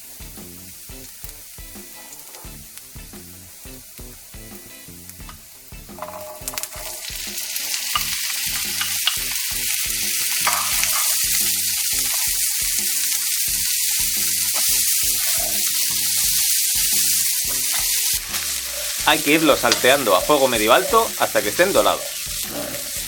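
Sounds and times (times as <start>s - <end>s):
chickpeas sizzling in oil: 0.0s - 23.0s.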